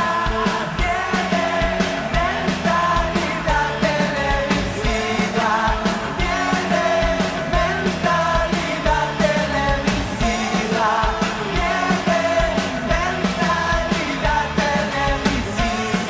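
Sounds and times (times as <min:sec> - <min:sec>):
bass guitar: 0:00.0 - 0:16.0
drums keeping a steady beat: 0:00.0 - 0:16.0
electric guitar: 0:00.0 - 0:16.0
man singing lead: 0:00.0 - 0:16.0.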